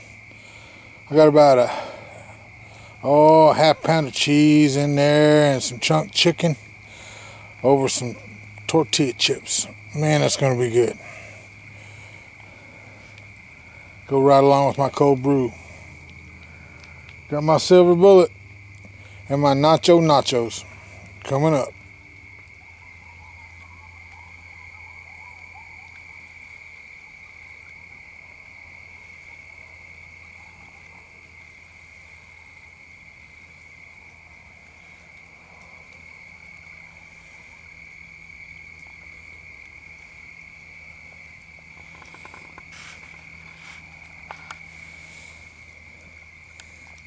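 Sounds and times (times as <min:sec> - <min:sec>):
frogs and insects trilling: 0:00.0 - 0:47.0.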